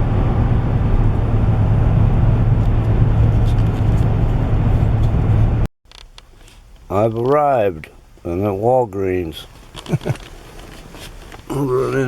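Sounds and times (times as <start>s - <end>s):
car interior road noise: 0.0s - 12.0s.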